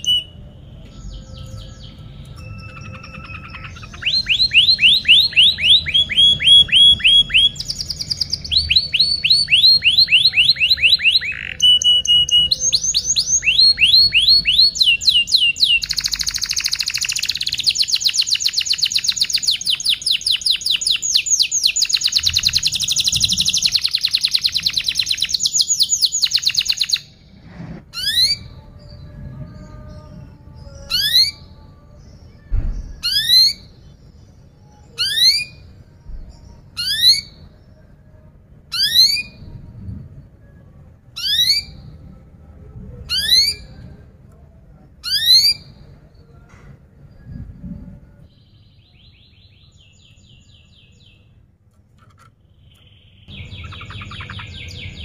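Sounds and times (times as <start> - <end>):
canary singing trills: 0.0 - 39.6, 41.1 - 42.2, 43.0 - 44.1, 45.0 - 46.2, 52.2 - 55.0.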